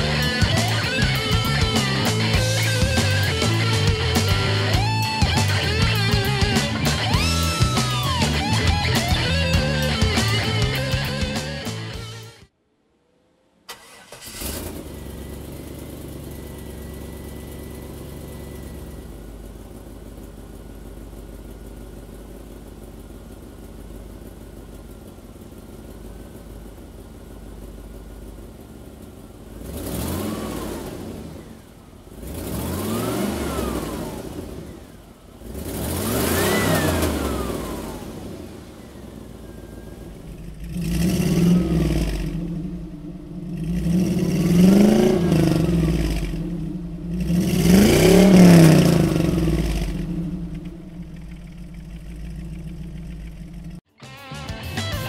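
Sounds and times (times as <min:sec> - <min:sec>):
engine revving: 0:00.0 - 0:12.5, 0:13.7 - 0:19.9, 0:28.5 - 0:53.9
truck engine starting and idling: 0:00.0 - 0:55.0.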